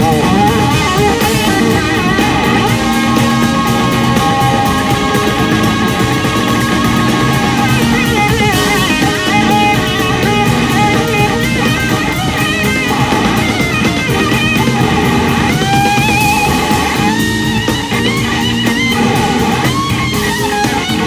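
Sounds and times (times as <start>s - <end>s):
bass guitar: 0.0s - 21.0s
drums: 0.0s - 21.0s
electric slide guitar solo: 0.0s - 21.0s.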